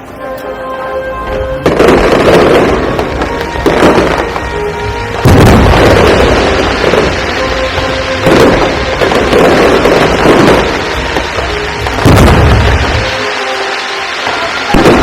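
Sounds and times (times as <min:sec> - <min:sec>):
background music with held tones: 0:00.0 - 0:15.0
fireworks crackling: 0:00.0 - 0:15.0
fireworks booming: 0:01.3 - 0:13.4, 0:14.2 - 0:15.0.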